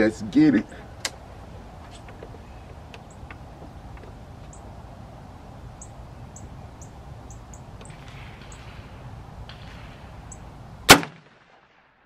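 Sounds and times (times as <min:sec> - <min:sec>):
small birds chirping: 0:00.0 - 0:10.8
low outdoor background: 0:00.0 - 0:12.0.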